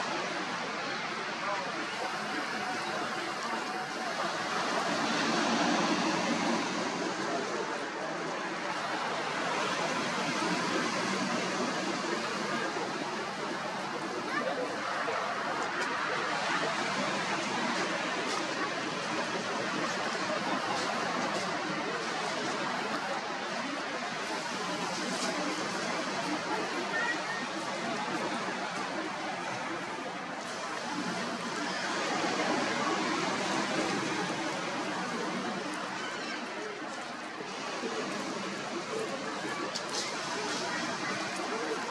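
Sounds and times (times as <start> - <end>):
sea surf on shingle beach: 0.0 - 41.9.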